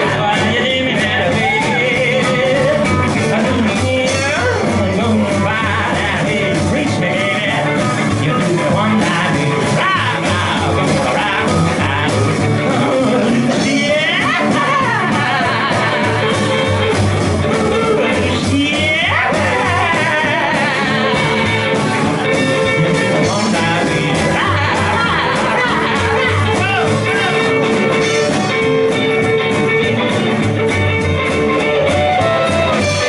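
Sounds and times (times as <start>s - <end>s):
person singing: 0.0s - 30.3s
acoustic guitar strumming: 0.0s - 33.0s
electric guitar: 0.0s - 33.0s
upright bass: 0.0s - 33.0s.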